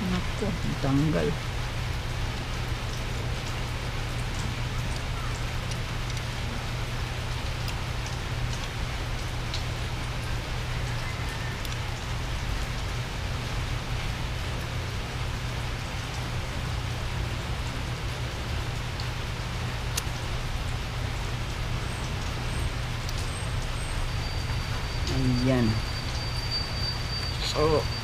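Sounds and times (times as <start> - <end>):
rain on a hard surface: 0.0 - 28.0.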